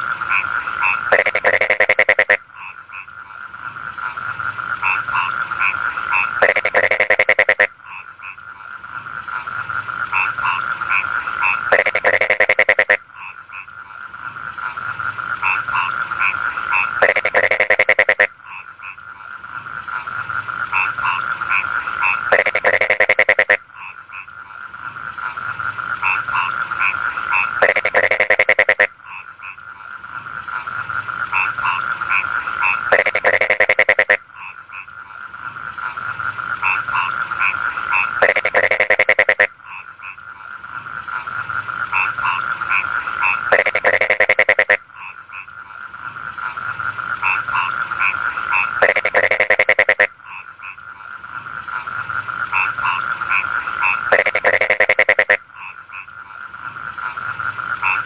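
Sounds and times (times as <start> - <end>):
frog rattling call: 0.0 - 3.4, 4.0 - 8.7, 9.4 - 13.8, 14.6 - 19.3, 19.9 - 24.4, 25.2 - 29.9, 30.6 - 35.0, 35.8 - 40.5, 41.1 - 58.0
chorus of frog calls: 0.0 - 58.0.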